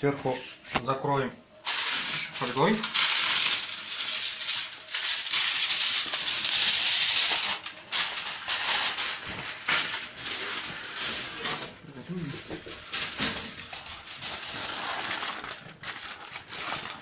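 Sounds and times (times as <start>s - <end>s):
aluminium foil crinkling: 1.6s - 17.0s.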